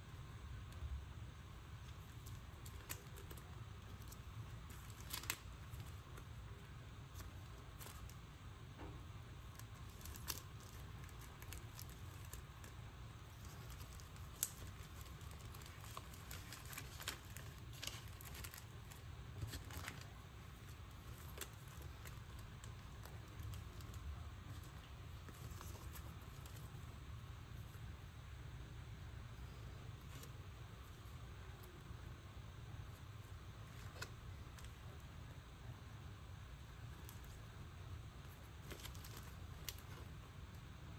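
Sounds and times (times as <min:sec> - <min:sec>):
steady low hum: 0:00.0 - 0:40.9
plastic sleeves crinkling: 0:00.4 - 0:28.0, 0:29.4 - 0:32.0, 0:32.8 - 0:35.0, 0:36.7 - 0:40.7.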